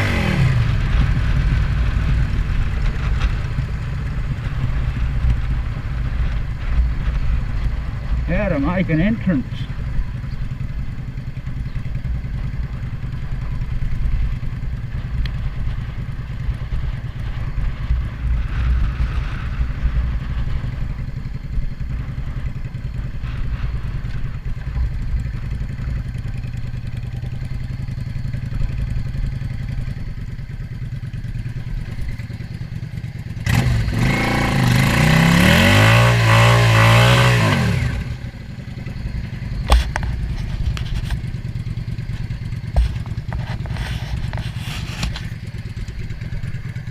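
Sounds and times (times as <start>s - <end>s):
engine idling and revving: 0.0s - 46.9s.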